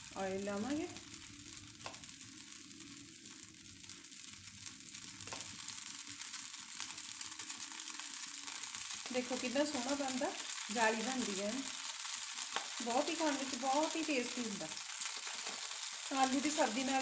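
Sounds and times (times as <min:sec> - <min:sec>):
batter sizzling in oil: 0:00.0 - 0:17.0.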